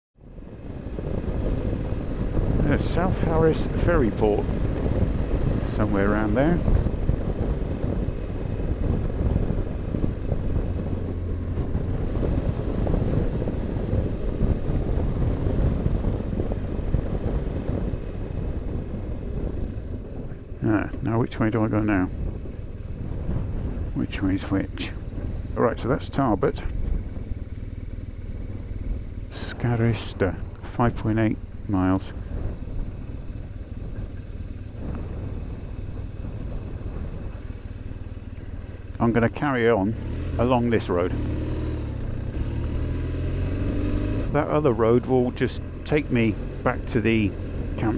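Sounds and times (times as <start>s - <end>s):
motorcycle engine and road noise: 0.2s - 47.9s
wind buffeting microphone: 0.2s - 47.9s.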